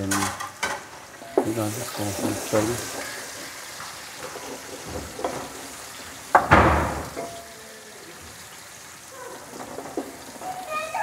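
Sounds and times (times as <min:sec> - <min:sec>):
onions frying in hot fat: 0:00.0 - 0:11.0.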